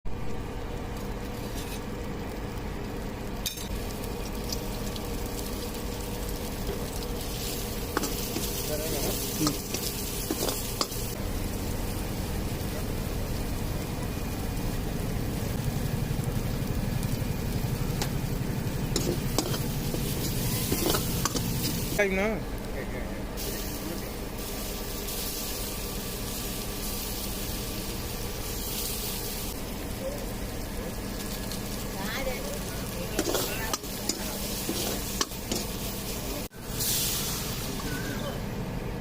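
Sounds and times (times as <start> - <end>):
noodles sizzling in a pan: 0.2 - 22.8, 23.4 - 38.5.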